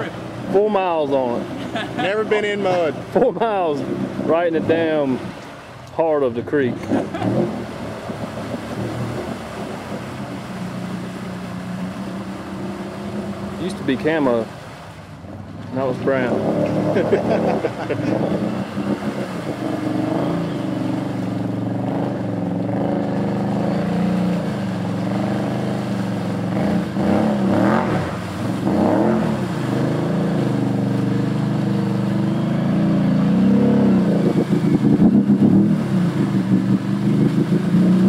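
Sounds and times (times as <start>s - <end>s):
atv engine revving: 0.0s - 5.5s, 6.7s - 14.7s, 15.3s - 38.0s
churning through mud and water: 0.0s - 38.0s.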